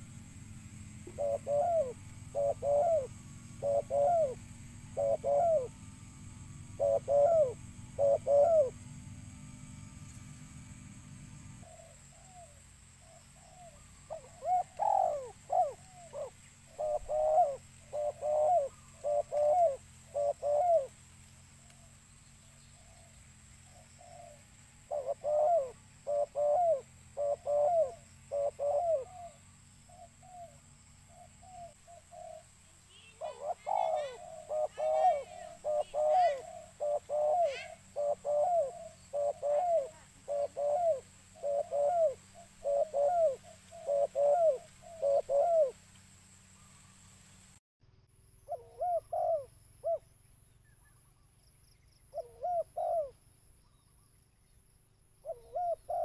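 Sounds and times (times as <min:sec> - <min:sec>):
dove cooing: 0:00.0 - 0:09.0, 0:11.0 - 0:21.0, 0:22.8 - 0:45.8, 0:48.5 - 0:50.0, 0:52.1 - 0:53.2, 0:55.2 - 0:56.0
small bird chirping: 0:00.0 - 0:47.6, 0:48.3 - 0:56.0.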